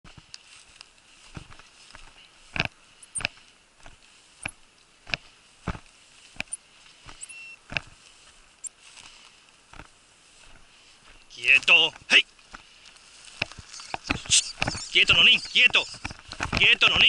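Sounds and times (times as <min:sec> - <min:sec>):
footsteps through dry scrub: 0:00.1 - 0:17.0.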